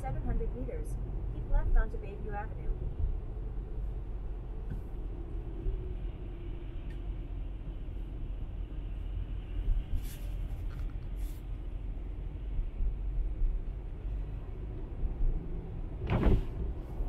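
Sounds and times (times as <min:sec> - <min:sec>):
car engine and tyres on wet road: 0:00.0 - 0:17.0.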